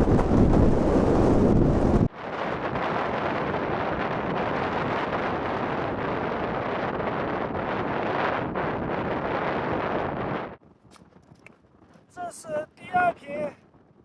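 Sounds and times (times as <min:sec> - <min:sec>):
rushing wind: 0:00.0 - 0:14.0
wind buffeting microphone: 0:00.0 - 0:14.0.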